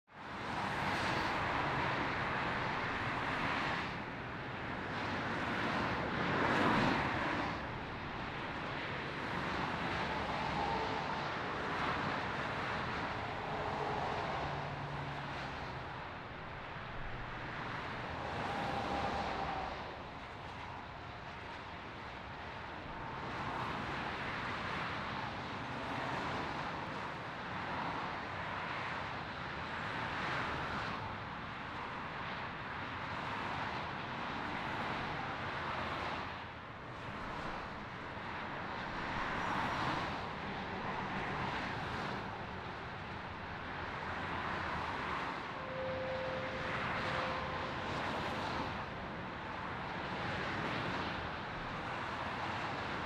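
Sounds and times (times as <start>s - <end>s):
motorway traffic rushing: 0.1s - 53.0s.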